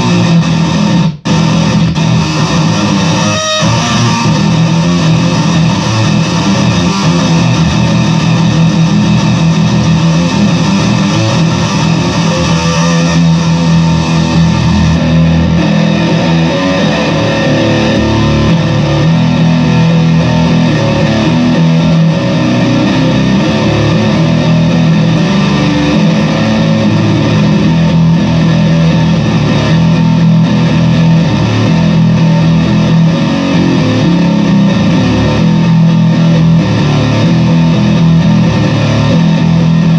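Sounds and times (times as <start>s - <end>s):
distorted fuzz bass notes: 0.0s - 39.9s.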